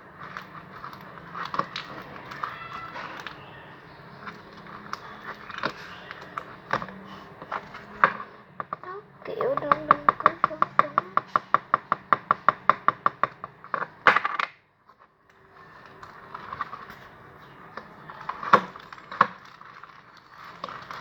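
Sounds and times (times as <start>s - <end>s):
soft handling noise: 0.0s - 11.6s, 14.8s - 21.0s.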